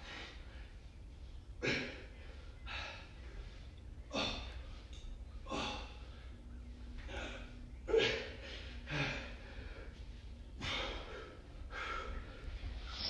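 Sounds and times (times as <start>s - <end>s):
man breathing hard: 0.0s - 12.9s.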